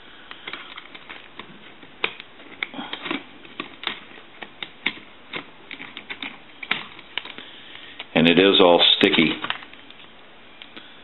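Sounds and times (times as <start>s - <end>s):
plastic parts clicking and tapping: 0.3s - 8.1s, 9.0s - 10.8s.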